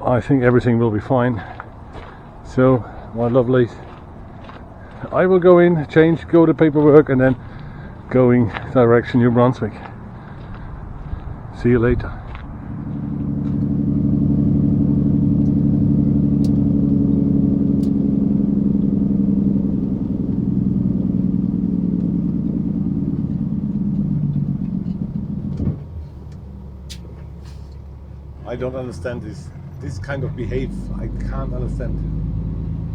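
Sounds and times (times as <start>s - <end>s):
low rumble: 0.0s - 32.9s
truck engine hum: 0.0s - 32.9s.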